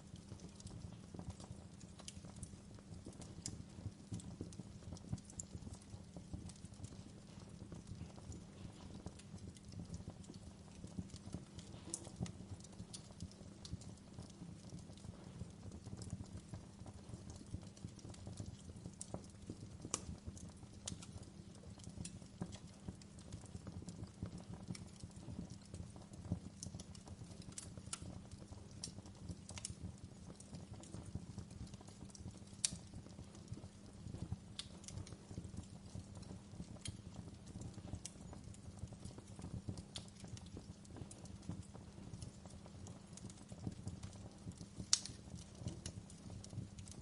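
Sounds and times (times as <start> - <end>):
wood fire crackling in fireplace: 0.0 - 47.0.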